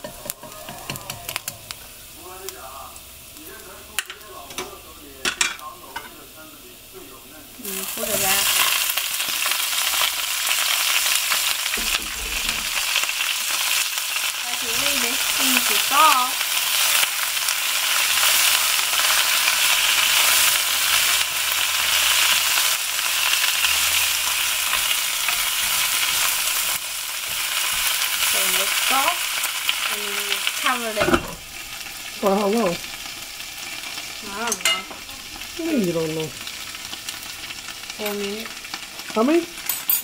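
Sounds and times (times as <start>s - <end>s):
vegetables sizzling in hot oil: 0.0s - 40.0s.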